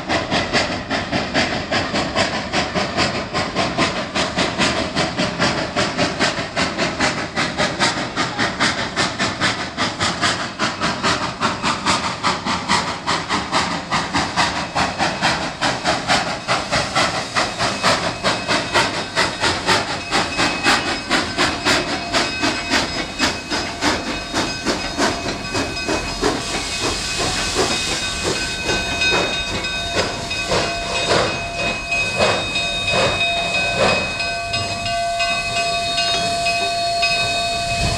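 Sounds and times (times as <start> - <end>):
steam hissing: 0.0 - 37.9
steam locomotive exhaust chuffs: 0.0 - 37.9.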